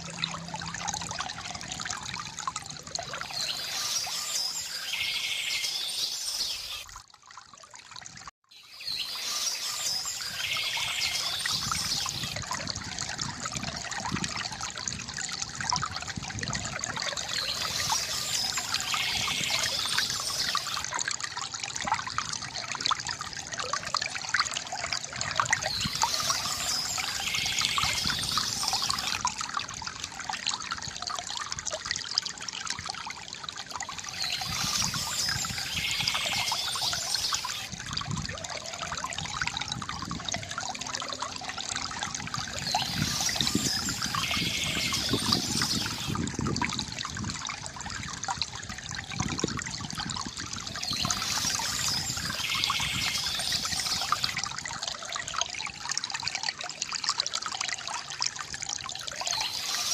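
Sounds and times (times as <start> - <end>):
fountain water trickling into basin: 0.0 - 59.9.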